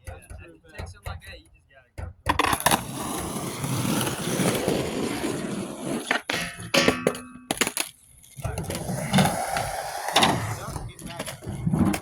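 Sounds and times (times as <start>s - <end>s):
skateboard clattering with metallic clang: 2.1s - 12.0s
skateboard wheels rolling on concrete: 2.2s - 12.0s.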